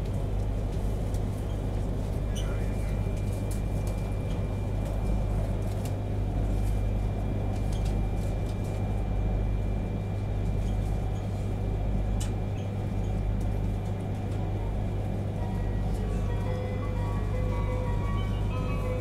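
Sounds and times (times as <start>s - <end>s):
train cabin rumble: 0.0s - 19.0s.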